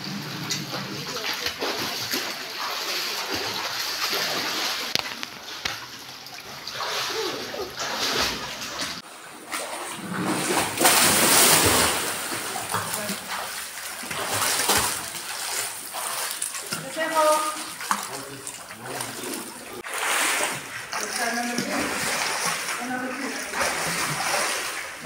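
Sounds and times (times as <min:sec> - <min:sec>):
water splashing in a pool: 0:00.0 - 0:25.0.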